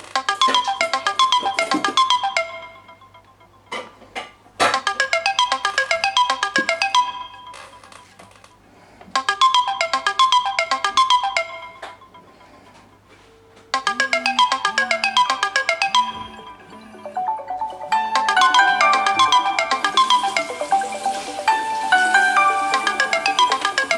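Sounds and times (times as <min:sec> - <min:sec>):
bell-like marimba ringtone notes: 0:00.1 - 0:03.7, 0:04.8 - 0:08.2, 0:09.2 - 0:23.9.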